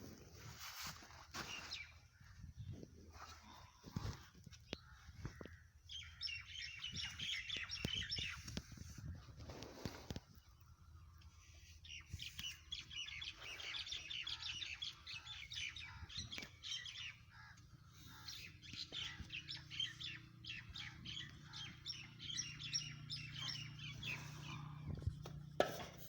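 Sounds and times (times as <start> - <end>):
small birds chirping: 1.3 - 25.6.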